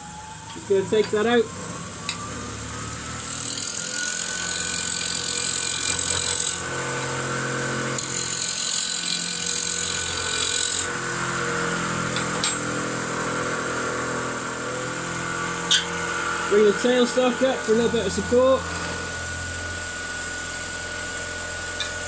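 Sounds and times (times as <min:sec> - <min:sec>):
wood lathe motor whine: 0:00.0 - 0:22.0
turning tool cutting wood: 0:02.1 - 0:22.0.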